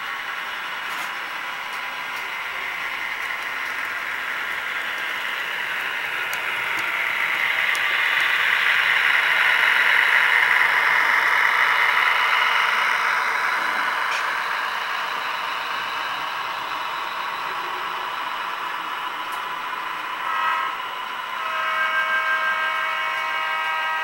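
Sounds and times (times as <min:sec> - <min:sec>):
model train whirring on track: 0:00.0 - 0:24.0.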